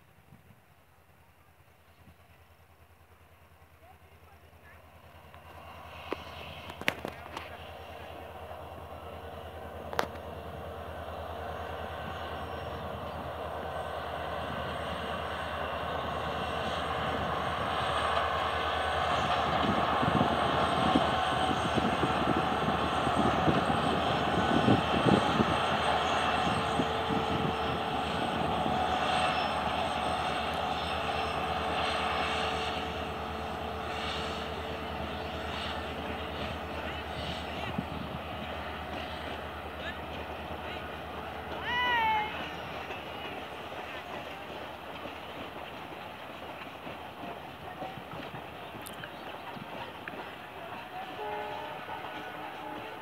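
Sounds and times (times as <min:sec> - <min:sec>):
diesel locomotive engine running: 0:00.6 - 0:53.0.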